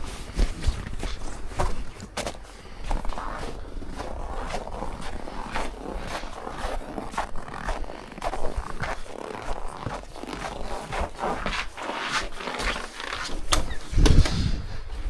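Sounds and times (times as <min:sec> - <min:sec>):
snow crunching and scraping: 0:00.0 - 0:15.0.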